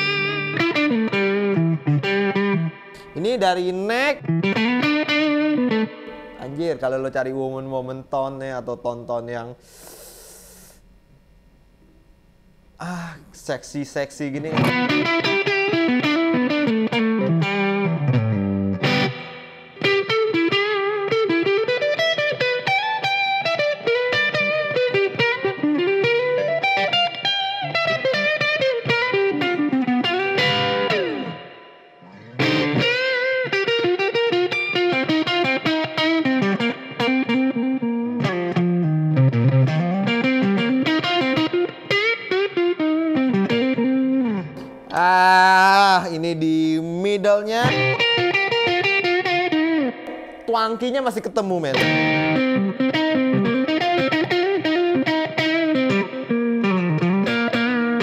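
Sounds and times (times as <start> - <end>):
overdriven electric guitar lead: 0.0 - 6.6, 14.4 - 58.0.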